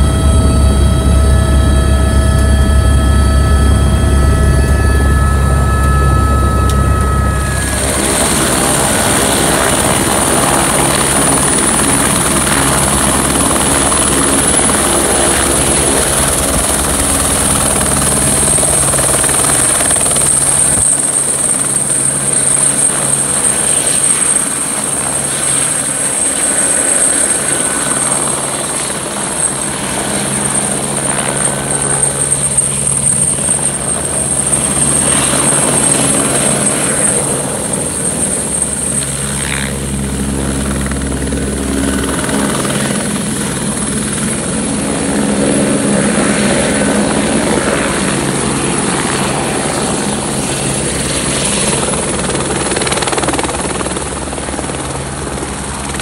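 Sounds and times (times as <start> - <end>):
helicopter rotor noise: 0.0 - 56.0
high turbine whine: 0.0 - 56.0.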